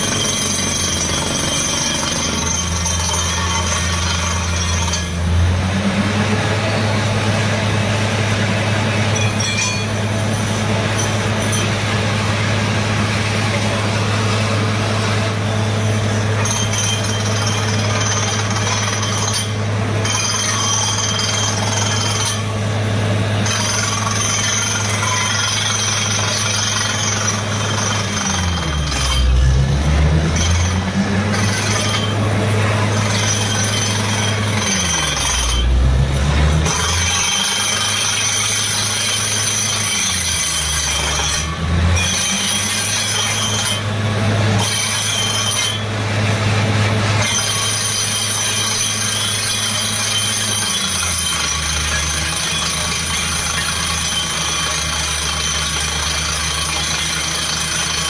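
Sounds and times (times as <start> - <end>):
drilling rig engine drone: 0.0 - 58.0.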